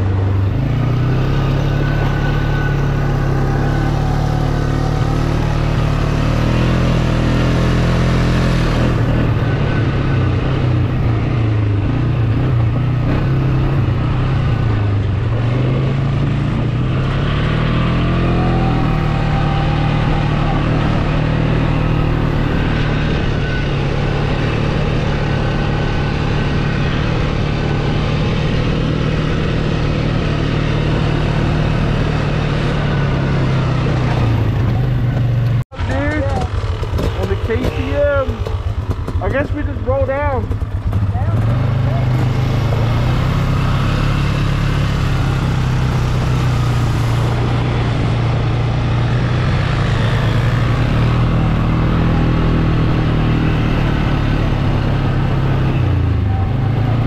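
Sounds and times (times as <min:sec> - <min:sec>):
off-road vehicle engine running: 0:00.0 - 0:57.0.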